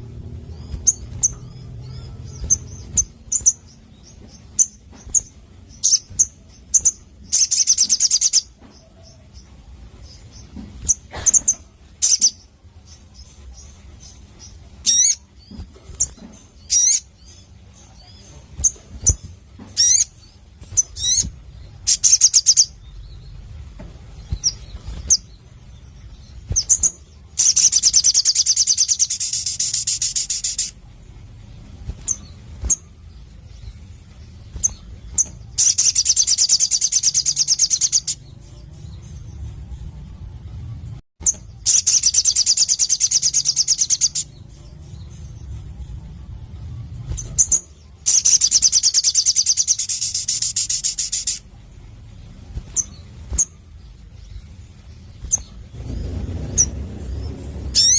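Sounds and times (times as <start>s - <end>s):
bird chirping: 0.0s - 57.9s
buzzy bird trills: 0.0s - 57.9s.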